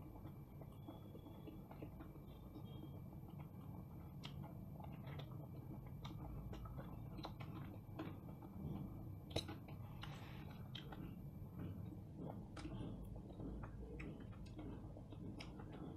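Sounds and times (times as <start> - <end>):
slurping and chewing: 0.0 - 15.9.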